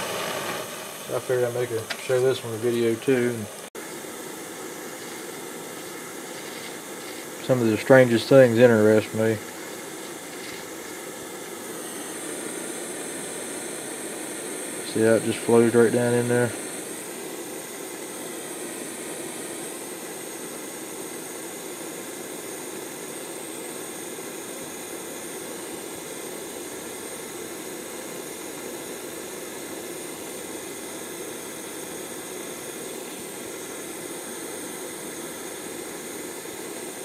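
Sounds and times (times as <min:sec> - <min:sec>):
gas torch flame hissing: 0:00.0 - 0:37.0.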